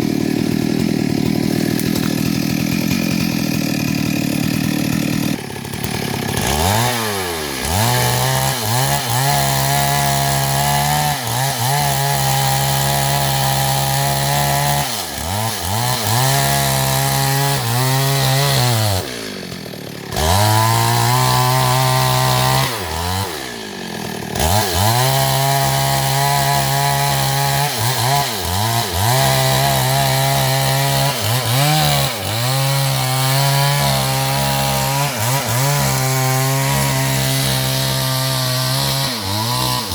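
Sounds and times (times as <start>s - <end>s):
chainsaw cutting tree: 0.0s - 39.9s.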